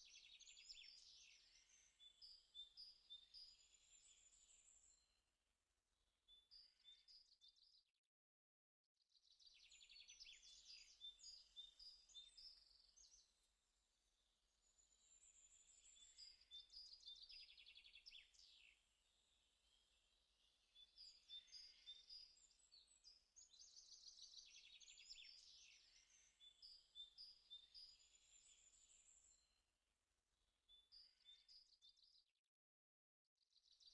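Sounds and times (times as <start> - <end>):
small birds chirping and trilling: 0.0 - 5.1, 9.2 - 29.6, 30.7 - 32.2, 33.5 - 33.9.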